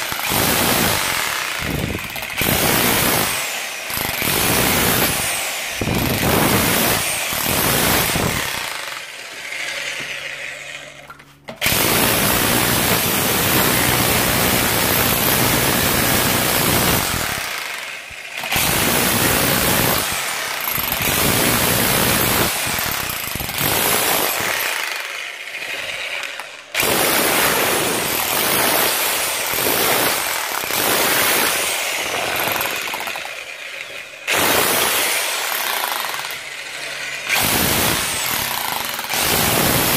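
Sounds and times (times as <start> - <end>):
hammer drill chiselling masonry: 0.0 - 39.9.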